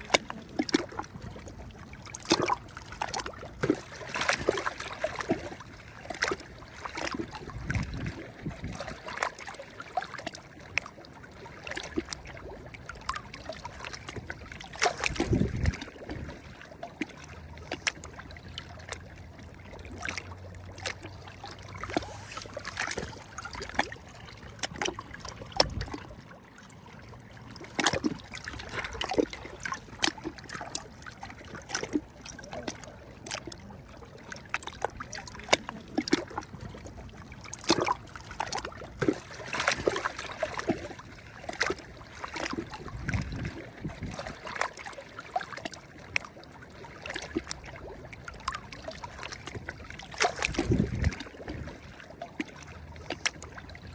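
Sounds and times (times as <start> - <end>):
small waves lapping and splashing: 0.0 - 53.9
water trickling: 0.0 - 53.9.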